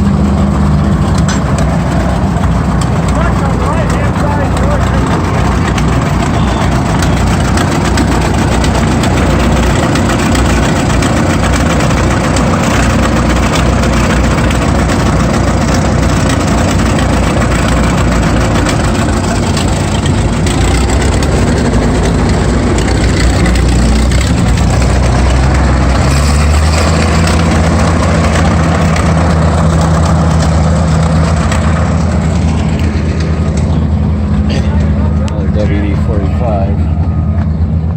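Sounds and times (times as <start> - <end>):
deep engine hum: 0.0 - 37.9
tractor engine idling: 0.0 - 37.9.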